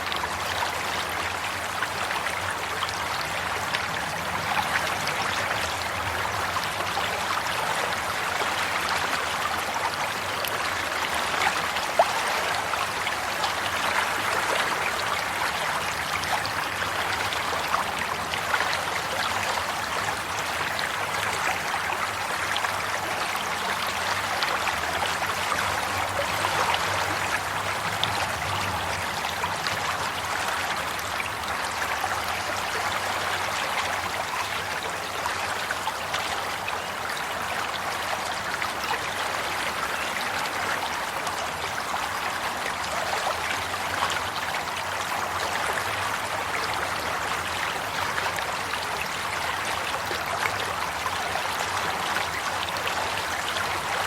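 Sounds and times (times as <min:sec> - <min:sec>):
stream trickling over stones: 0:00.0 - 0:54.0.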